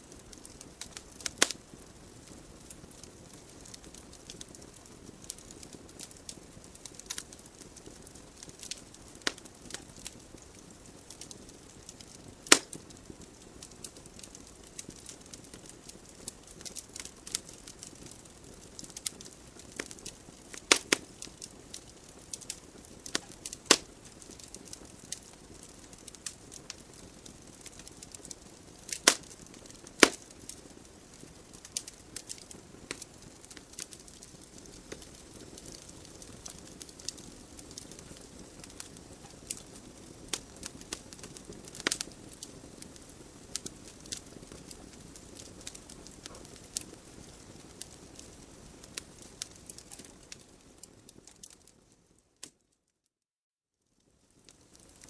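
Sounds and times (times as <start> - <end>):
faint steady hiss: 0.0 - 52.7
logs crackling and popping: 0.0 - 52.7, 54.2 - 55.0.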